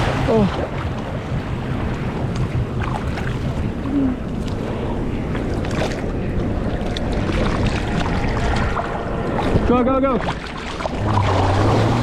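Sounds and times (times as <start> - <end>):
ocean water rushing: 0.0 - 12.0
small water splashes: 0.0 - 12.0.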